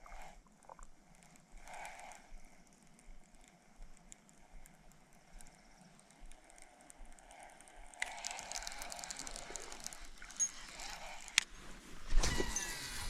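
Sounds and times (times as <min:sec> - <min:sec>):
light raindrops tapping: 0:00.0 - 0:11.5
soft hiss: 0:00.0 - 0:13.0.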